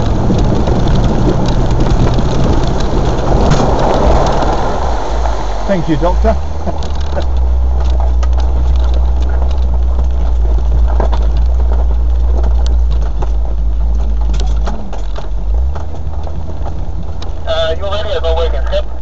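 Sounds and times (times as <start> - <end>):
knocks and rattles: 0.0 - 5.4, 6.1 - 17.5
vehicle engine rumble: 0.0 - 19.0.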